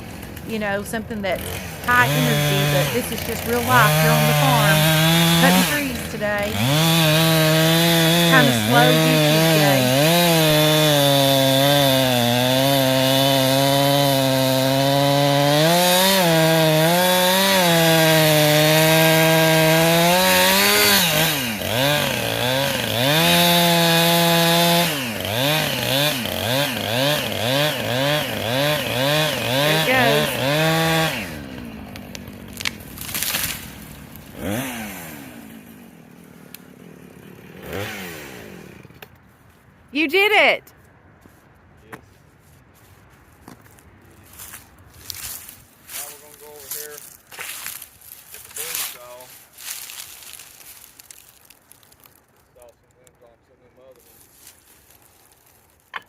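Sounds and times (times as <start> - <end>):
chainsaw cutting wood: 0.0 - 39.2, 40.0 - 40.6, 45.0 - 52.2.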